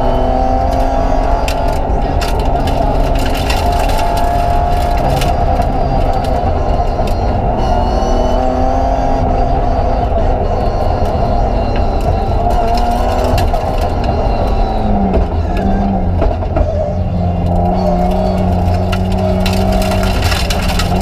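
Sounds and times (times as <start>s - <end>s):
car engine running hard: 0.0s - 21.0s.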